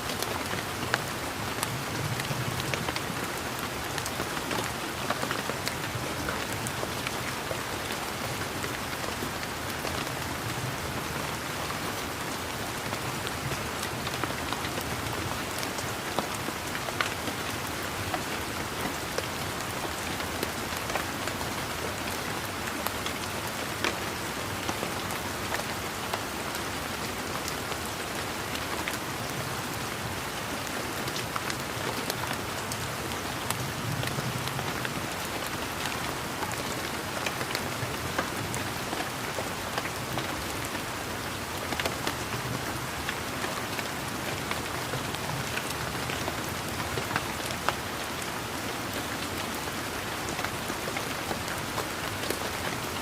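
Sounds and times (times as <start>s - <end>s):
rain pattering on leaves: 0.0s - 53.0s.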